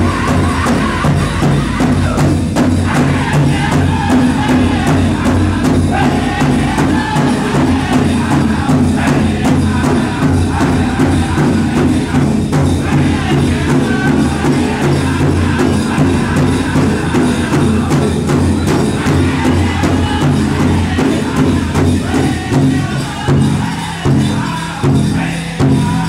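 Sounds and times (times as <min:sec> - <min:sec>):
big drum beating: 0:00.0 - 0:26.0
singers chanting: 0:00.0 - 0:26.0.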